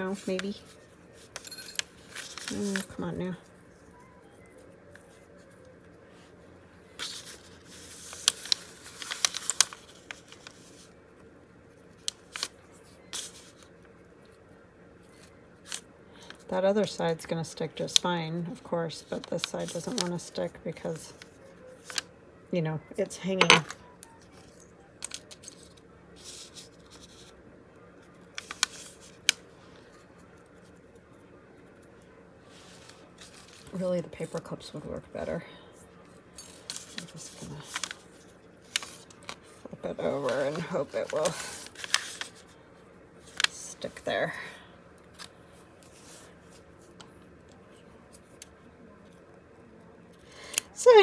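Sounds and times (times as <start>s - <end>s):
paper pages rustling: 0.0s - 16.5s, 17.8s - 22.1s, 23.8s - 27.4s, 28.0s - 31.8s, 32.5s - 35.1s, 36.0s - 44.1s, 45.0s - 49.2s.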